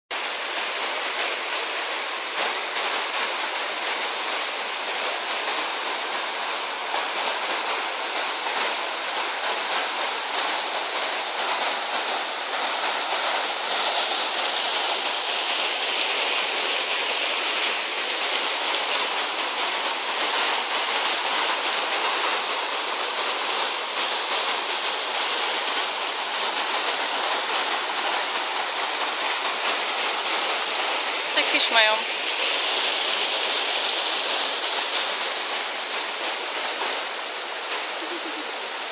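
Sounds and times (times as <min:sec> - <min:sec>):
waterfall rushing: 0:00.1 - 0:38.9.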